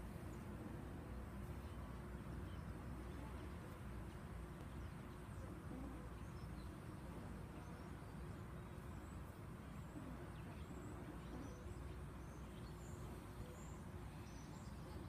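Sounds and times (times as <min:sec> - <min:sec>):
low steady rumble: 0:00.0 - 0:15.0
faint bird chirps: 0:01.4 - 0:15.0.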